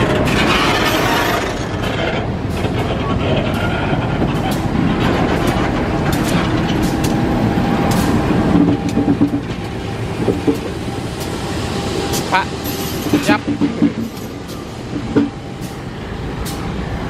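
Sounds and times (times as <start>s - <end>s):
train rolling with low rumble: 0.0s - 17.0s
wheels clicking on rails: 0.0s - 17.0s
diesel engine hum: 1.5s - 17.0s.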